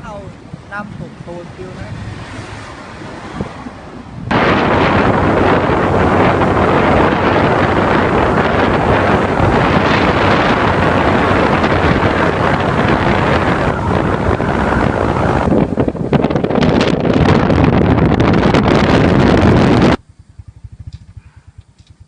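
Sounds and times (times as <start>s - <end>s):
vehicle low rumble: 0.0s - 22.0s
wind buffeting microphone: 0.0s - 22.0s.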